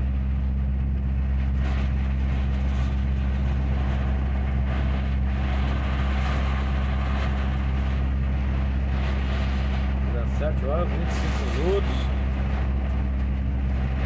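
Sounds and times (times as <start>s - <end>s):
diesel truck engine droning: 0.0s - 14.0s
rain and wet tyres hissing: 1.4s - 13.1s.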